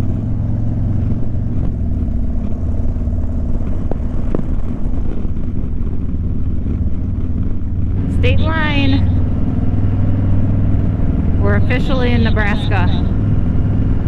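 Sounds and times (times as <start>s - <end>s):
motorcycle engine rumbling: 0.0s - 14.0s
wind and road noise: 0.0s - 14.0s.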